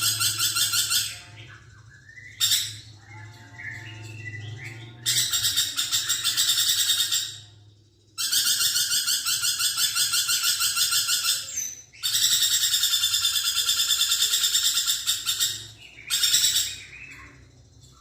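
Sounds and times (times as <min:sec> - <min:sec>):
lorikeet chattering: 0:00.0 - 0:18.0.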